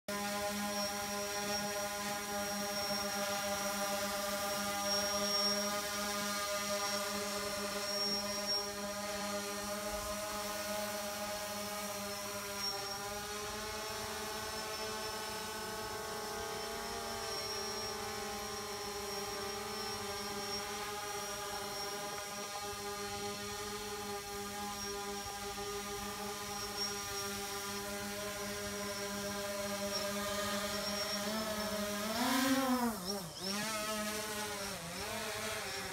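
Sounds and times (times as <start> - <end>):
drone propellers humming: 0.1 - 35.9.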